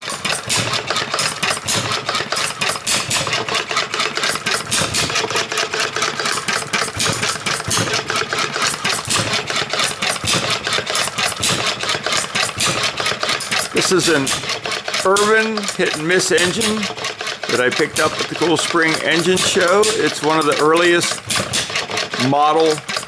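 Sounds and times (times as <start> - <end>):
gas engine clattering: 0.0 - 23.0.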